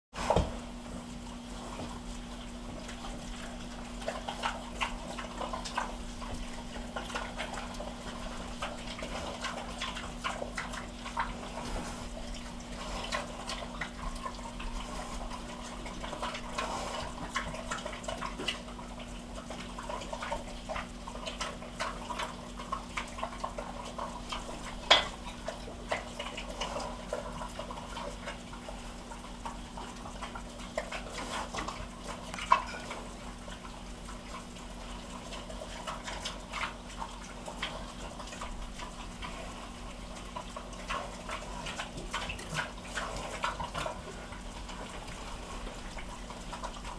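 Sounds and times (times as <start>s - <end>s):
pig chewing and smacking: 0.2s - 46.9s
steady low hum: 0.2s - 46.9s.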